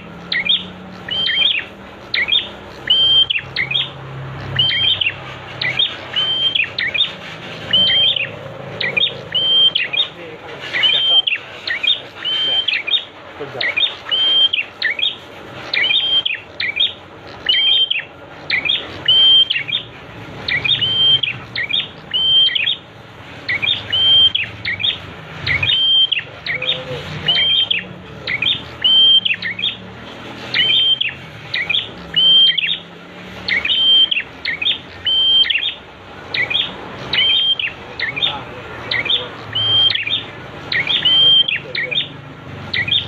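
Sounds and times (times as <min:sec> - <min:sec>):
bird song with chirps and whistle: 0:00.0 - 0:43.0.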